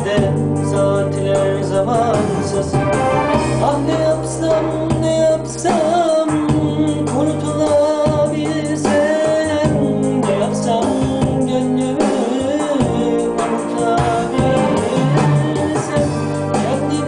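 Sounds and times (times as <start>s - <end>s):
keyboard melody over chords and bass: 0.0s - 17.0s.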